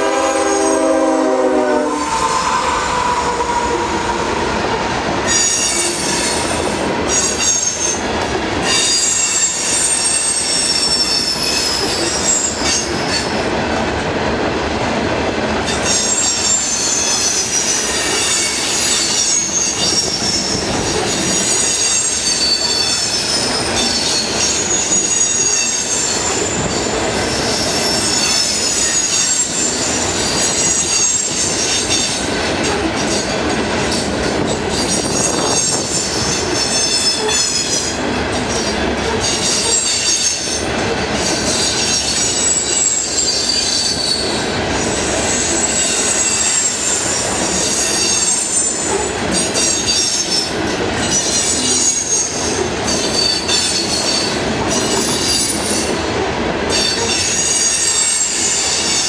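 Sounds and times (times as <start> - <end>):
steel wheels squealing on rail: 0.0 - 13.6, 15.6 - 59.0
train rumble and clatter: 0.0 - 59.0.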